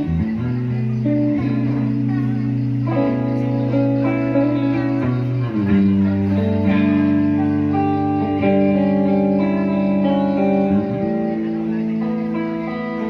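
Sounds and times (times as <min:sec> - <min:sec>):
live band guitar chords: 0:00.0 - 0:13.0.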